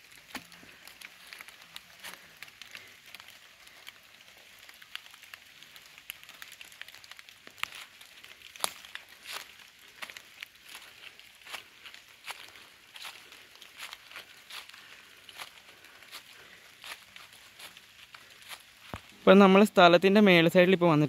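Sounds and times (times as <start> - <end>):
footsteps crunching through dry leaves: 0.0 - 20.4.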